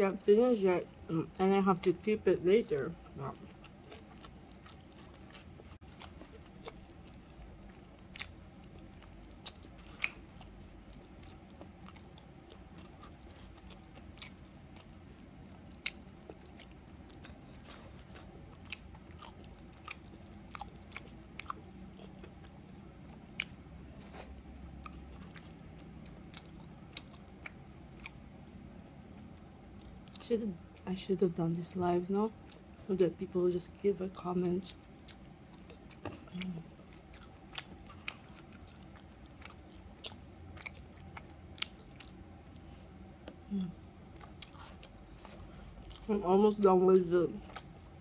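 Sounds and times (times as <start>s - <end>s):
steady low hum: 0.0s - 48.0s
person chewing food: 2.9s - 30.8s, 32.3s - 32.9s, 34.7s - 46.2s, 47.3s - 48.0s.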